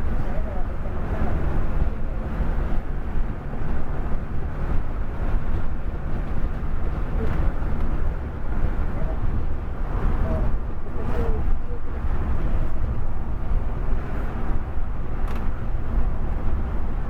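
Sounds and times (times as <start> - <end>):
coach engine and road rumble: 0.0 - 17.0.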